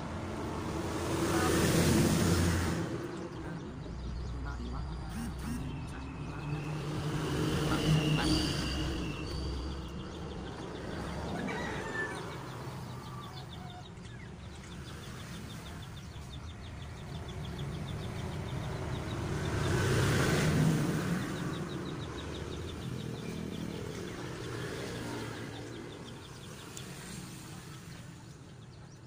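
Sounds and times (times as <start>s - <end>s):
vehicle engine passing: 0.0s - 28.8s.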